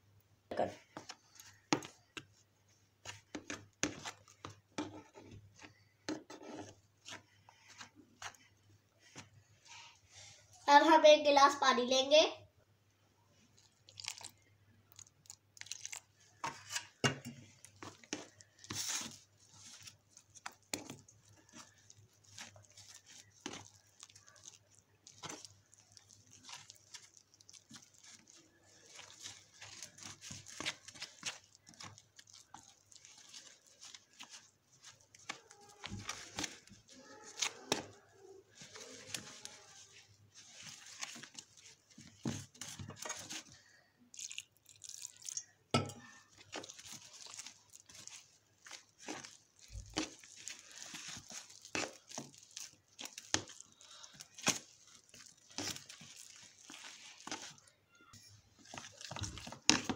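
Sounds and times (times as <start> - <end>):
metal spoon scraping batter: 3.0 - 10.4, 15.7 - 43.6, 44.6 - 59.9.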